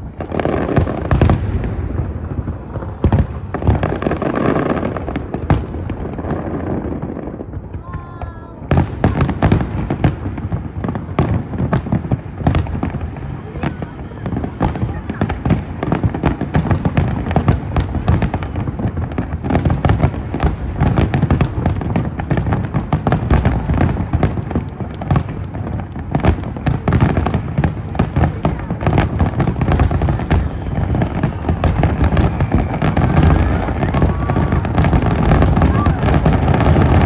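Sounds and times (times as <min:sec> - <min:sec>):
fireworks bursting: 0:00.0 - 0:37.0.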